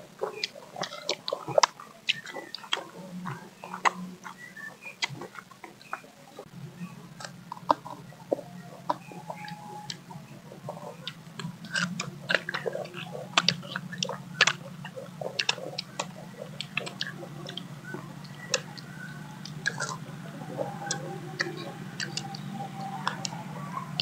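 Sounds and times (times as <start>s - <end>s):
chewing and crunching fruit: 0.0s - 24.0s
low hum: 0.0s - 24.0s
mouth clicks: 0.0s - 24.0s.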